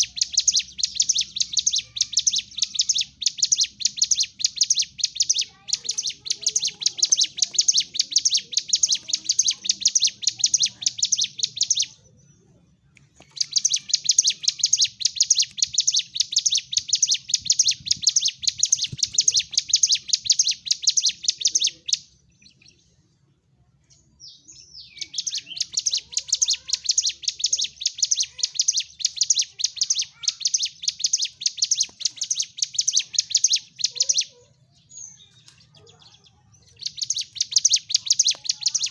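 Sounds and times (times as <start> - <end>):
bird singing sharp high notes: 0.0 - 12.1, 13.2 - 22.8, 24.3 - 34.3, 36.6 - 38.9.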